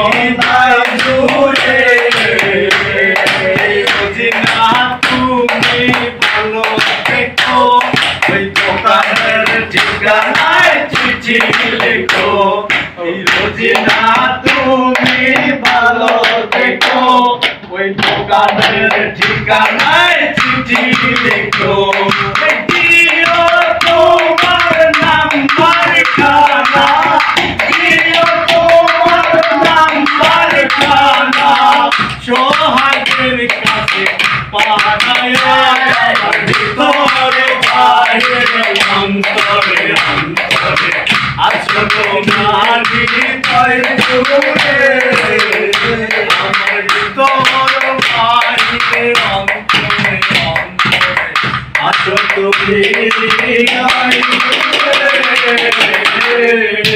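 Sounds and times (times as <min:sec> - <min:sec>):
hand slapping plastic plate: 0:00.0 - 0:56.9
men singing together: 0:00.0 - 0:56.9.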